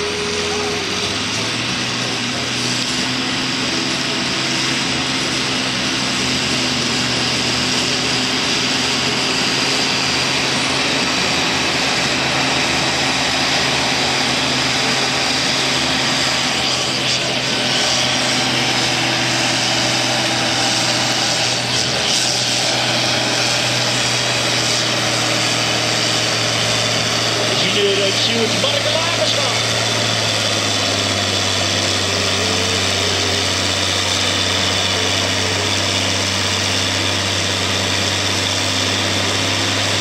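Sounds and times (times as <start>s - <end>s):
diesel tractor engine droning: 0.0s - 40.0s.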